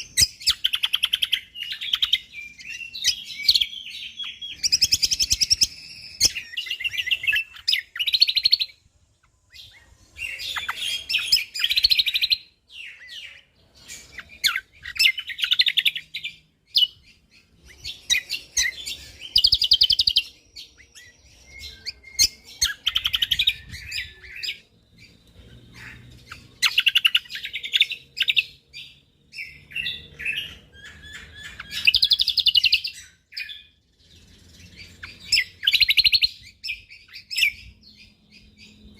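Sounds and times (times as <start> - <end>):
bird singing rapid chattering phrases: 0.0 - 38.9.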